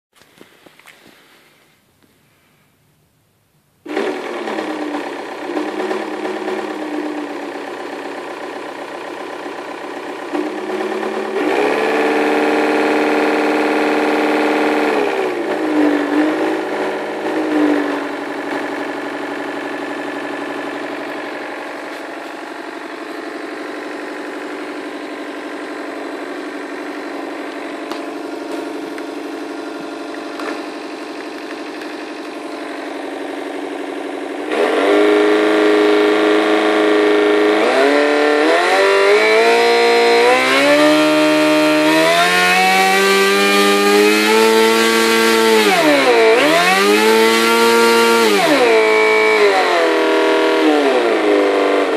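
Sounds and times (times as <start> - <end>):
model aircraft motor rumbling buzz: 3.8 - 51.9.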